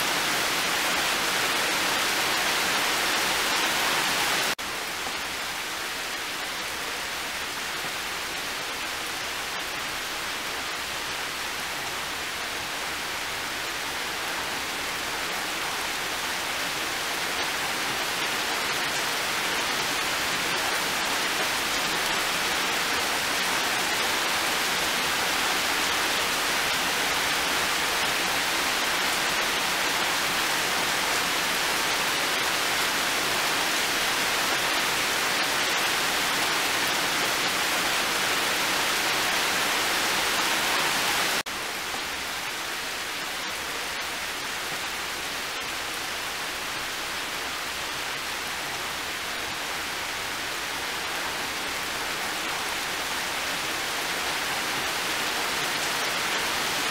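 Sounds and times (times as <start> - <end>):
heavy rain on leaves and metal: 0.0 - 56.9.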